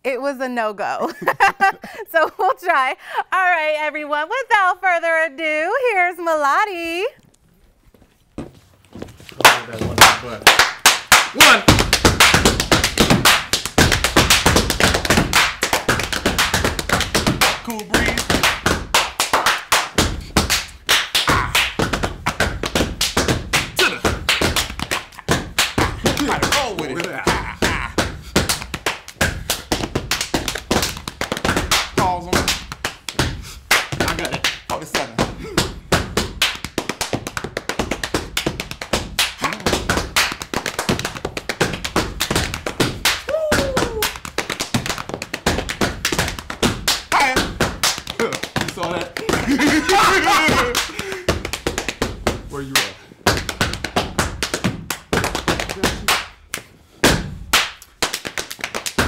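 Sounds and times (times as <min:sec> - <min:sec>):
foot stomps: 0:07.6 - 0:10.4, 0:11.3 - 0:52.5, 0:53.2 - 0:59.0
hand claps: 0:09.4 - 0:59.0
slaps on the body: 0:09.5 - 0:52.4, 0:53.2 - 0:59.0.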